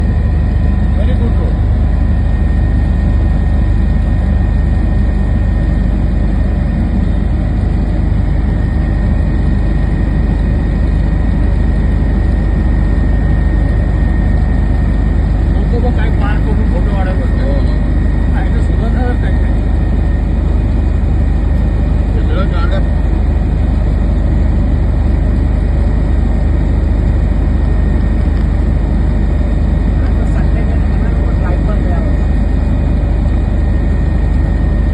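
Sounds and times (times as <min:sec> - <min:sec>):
aircraft cabin engine rumble: 0:00.0 - 0:34.9.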